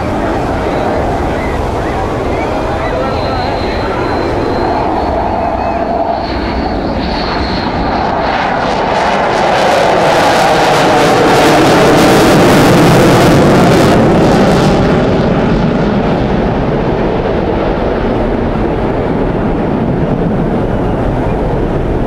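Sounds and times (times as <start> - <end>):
aircraft flying past: 0.0 - 22.0.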